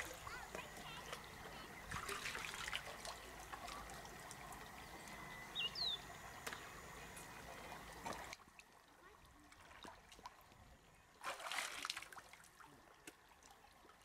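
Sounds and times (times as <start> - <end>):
river water trickling and splashing: 0.0 - 14.0.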